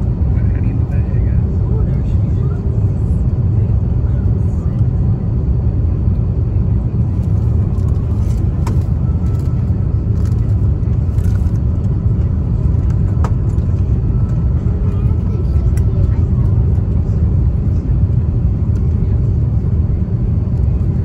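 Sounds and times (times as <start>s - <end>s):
cabin engine and airflow rumble: 0.0s - 21.0s.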